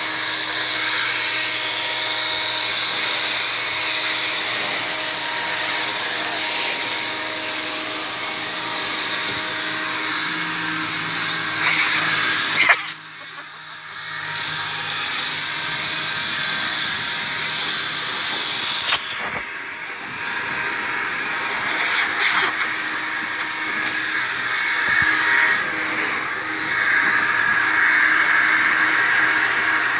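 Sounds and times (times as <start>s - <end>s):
leaf blower running: 0.0s - 29.9s.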